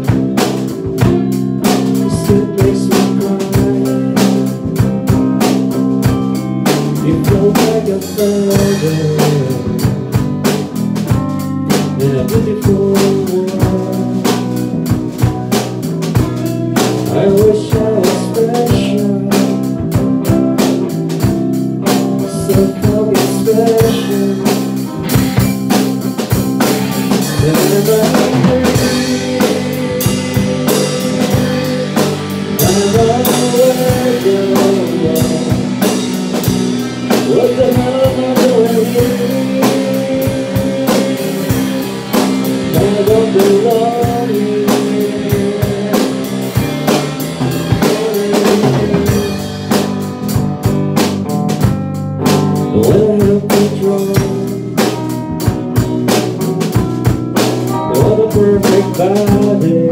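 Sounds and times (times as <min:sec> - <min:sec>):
band playing live: 0:00.0 - 0:59.9
bending guitar lead line: 0:00.0 - 0:59.9
drum kit beat: 0:00.0 - 0:59.9
electric guitars: 0:00.0 - 0:59.9.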